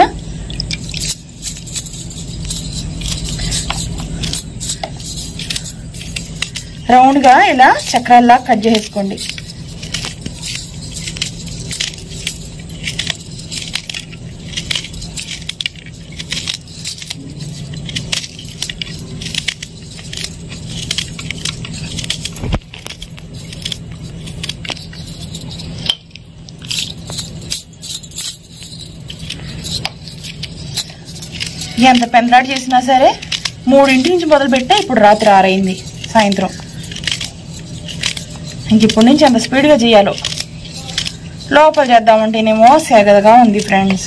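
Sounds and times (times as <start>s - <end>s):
bangles jingling: 0.0s - 44.0s.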